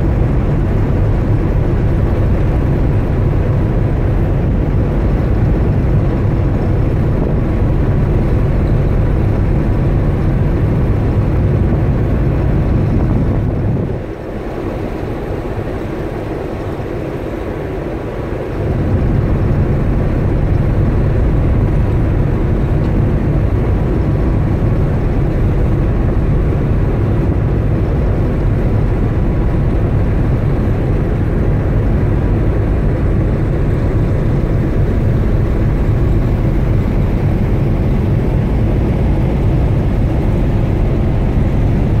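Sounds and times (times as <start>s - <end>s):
ship engine drone: 0.0s - 42.0s
wind on open deck: 0.0s - 42.0s.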